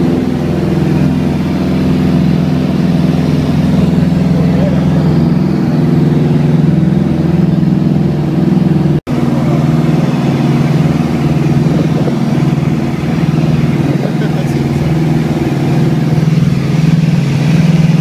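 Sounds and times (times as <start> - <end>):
aircraft engines droning in cabin: 0.0 - 18.0.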